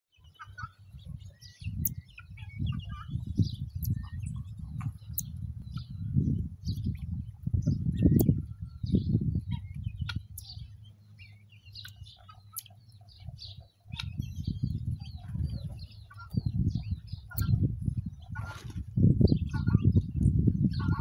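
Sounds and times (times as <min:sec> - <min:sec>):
birds chirping and twittering: 0:00.1 - 0:21.0
wind buffeting microphone: 0:00.3 - 0:21.0.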